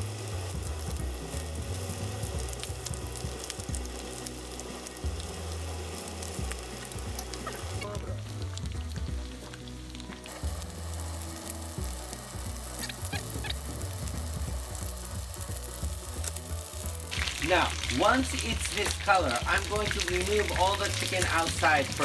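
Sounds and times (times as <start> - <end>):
chicken sizzling in oil: 0.0 - 22.0
oil popping: 0.0 - 22.0.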